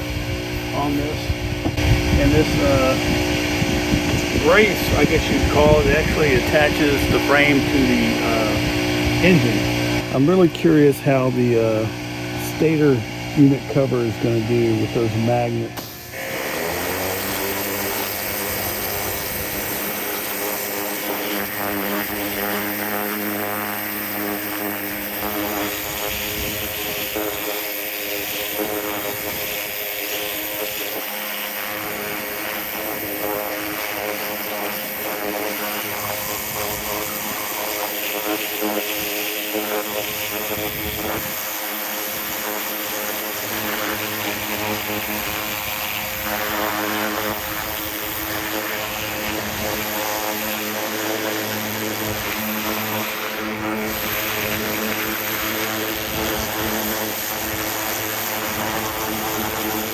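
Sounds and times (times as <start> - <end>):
power washer running: 0.0 - 59.9
water jet hissing: 0.7 - 59.9.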